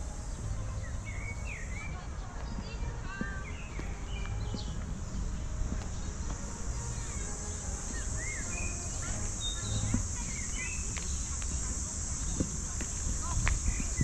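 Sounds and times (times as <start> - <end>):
bird chirps: 0.0 - 14.0
insects chirring: 0.0 - 14.0.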